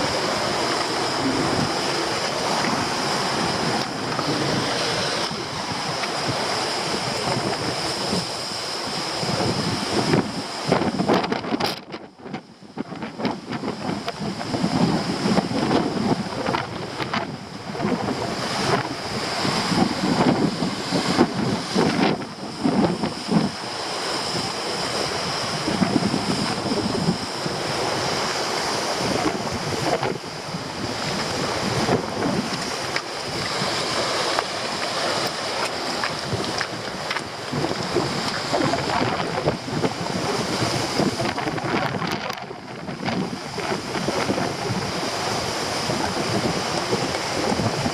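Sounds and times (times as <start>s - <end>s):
storm surf: 0.0s - 47.9s
wind buffeting microphone: 0.0s - 47.9s.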